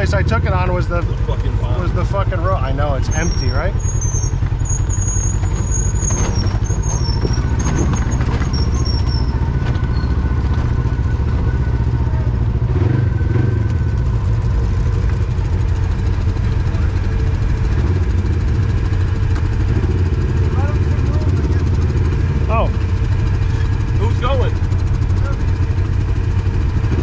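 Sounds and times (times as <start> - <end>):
off-road vehicle engine running: 0.0 - 27.0.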